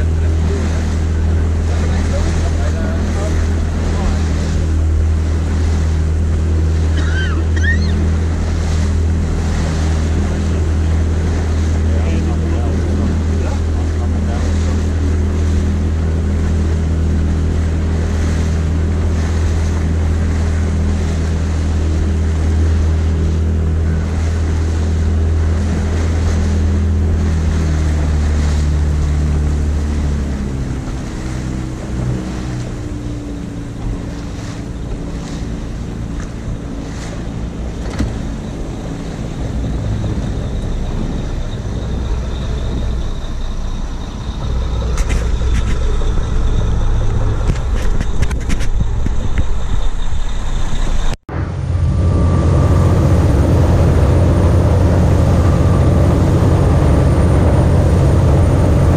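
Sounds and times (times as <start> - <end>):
small boat motor running: 0.0 - 58.9
water noise: 0.0 - 58.9
wind: 0.0 - 58.9.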